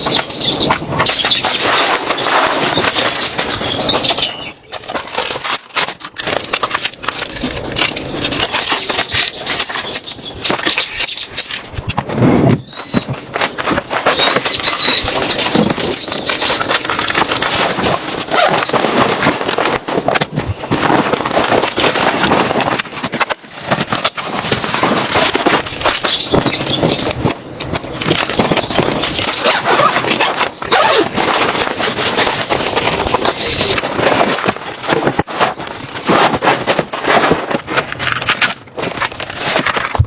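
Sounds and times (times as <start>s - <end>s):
snow crunching and squeaking: 0.0s - 40.0s.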